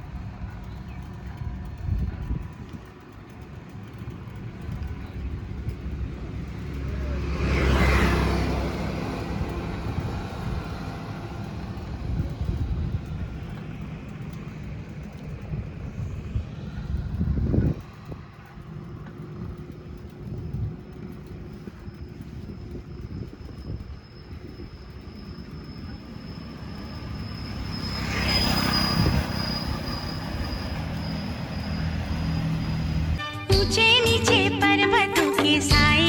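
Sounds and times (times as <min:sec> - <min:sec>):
vehicle passing close by: 0:00.0 - 0:23.8, 0:26.3 - 0:33.2
traffic rumble: 0:00.0 - 0:36.0.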